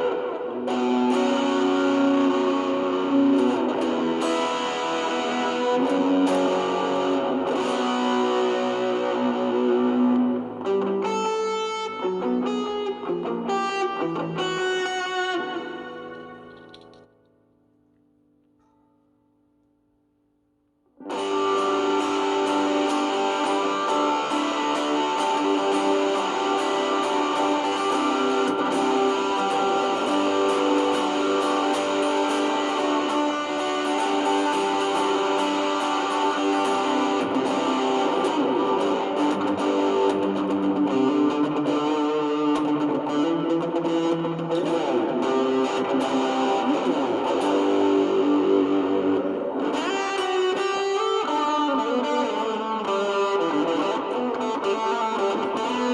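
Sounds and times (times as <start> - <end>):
distorted electric guitar: 0.0 - 17.3, 21.0 - 55.9.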